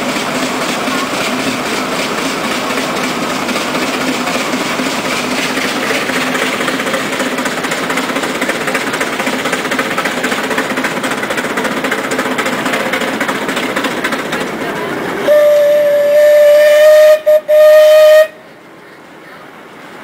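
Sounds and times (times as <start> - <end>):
steam engine clattering: 0.0 - 18.4.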